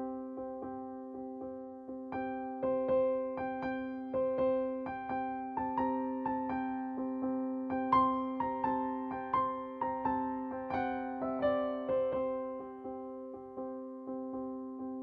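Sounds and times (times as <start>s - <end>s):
calm piano music: 0.0s - 15.0s.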